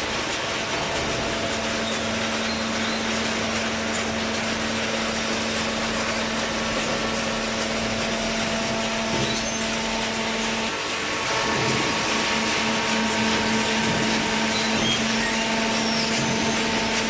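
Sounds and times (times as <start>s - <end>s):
hydraulic baler humming: 0.0s - 17.0s.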